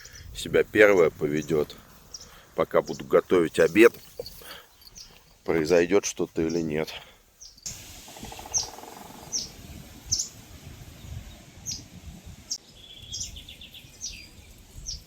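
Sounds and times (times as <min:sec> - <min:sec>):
bird chirping: 0:00.9 - 0:05.8, 0:07.4 - 0:15.0.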